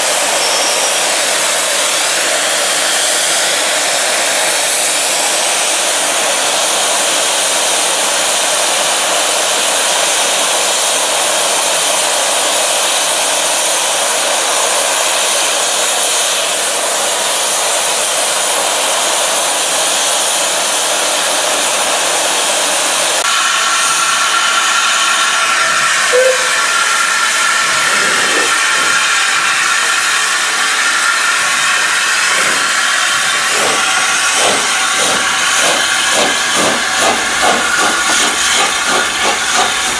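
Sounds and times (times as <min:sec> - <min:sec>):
steam locomotive blowing off steam: 0:00.0 - 0:39.9
steam locomotive exhaust beats: 0:00.0 - 0:39.9.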